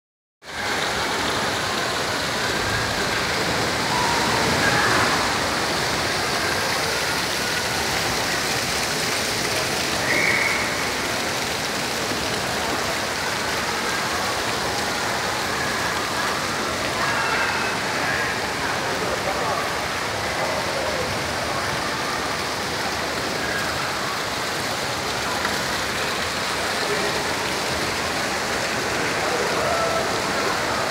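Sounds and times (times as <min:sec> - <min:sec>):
fountain water splashing: 0:00.4 - 0:30.9.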